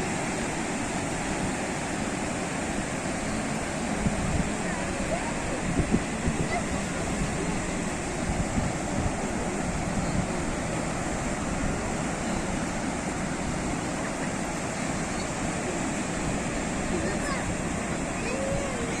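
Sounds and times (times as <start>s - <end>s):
waves breaking on shore: 0.0s - 19.0s.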